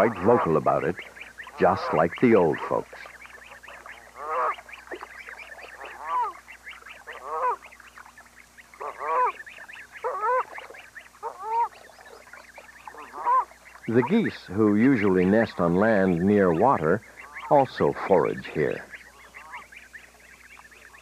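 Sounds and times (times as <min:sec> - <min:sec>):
geese honking: 0:00.0 - 0:21.0.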